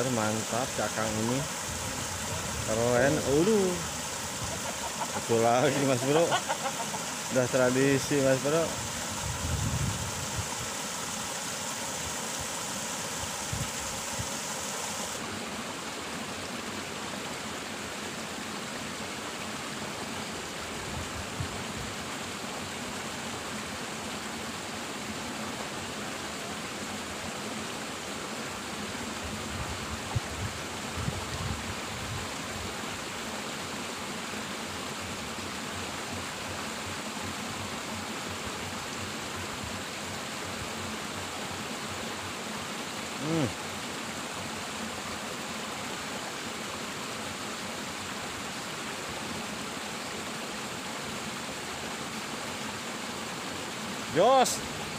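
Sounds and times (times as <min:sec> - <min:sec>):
water rushing through ditch: 0:00.0 - 0:54.9.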